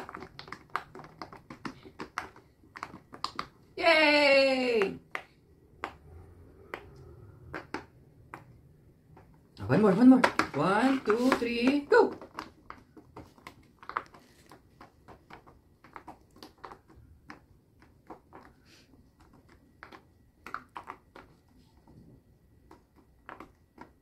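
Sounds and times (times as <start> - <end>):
fidget toy bubbles popping: 0.0 - 3.8, 4.8 - 24.0.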